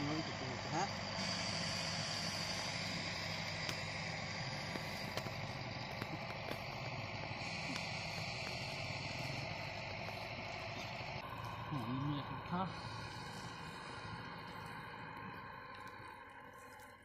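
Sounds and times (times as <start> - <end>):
constant hiss: 0.0 - 17.0
low engine hum: 0.0 - 17.0.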